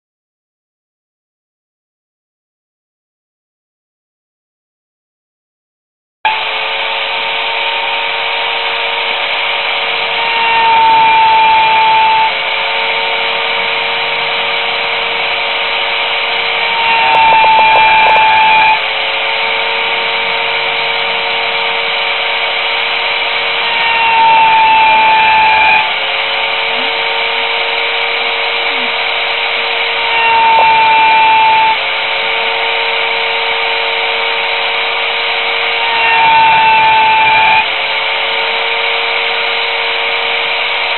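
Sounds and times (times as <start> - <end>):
router motor whine: 6.2 - 40.9.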